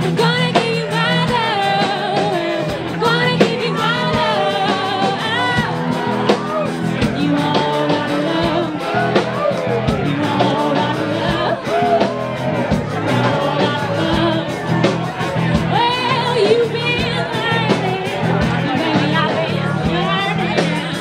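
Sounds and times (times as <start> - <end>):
bass and guitar: 0.0 - 21.0
person singing lead vocal: 0.0 - 21.0
steady drumbeat: 0.0 - 21.0.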